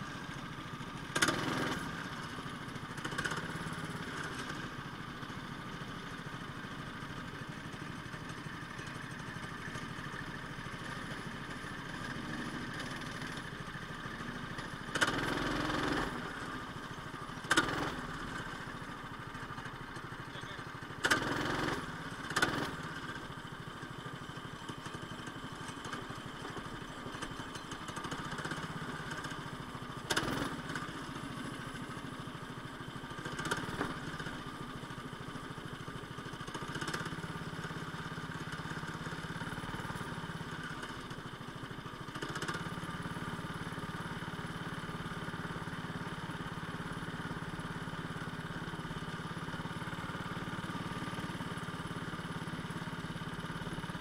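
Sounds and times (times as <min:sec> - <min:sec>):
go-kart engine running: 0:00.0 - 0:54.0.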